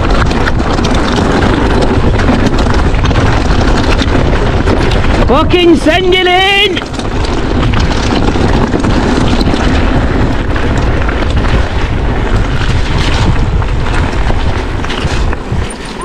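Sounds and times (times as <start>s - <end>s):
bike tyres rattling on dirt trail: 0.0s - 16.0s
wind buffeting microphone: 0.0s - 16.0s.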